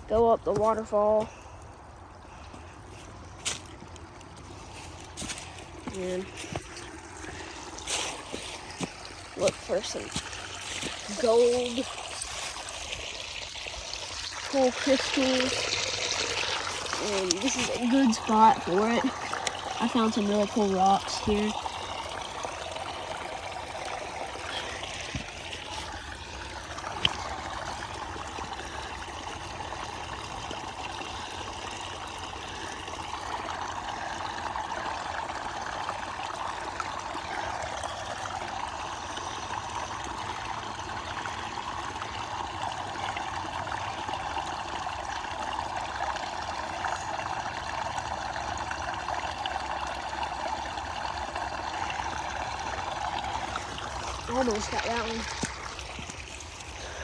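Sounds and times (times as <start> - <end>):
creek water splashing over rocks: 0.0 - 57.0.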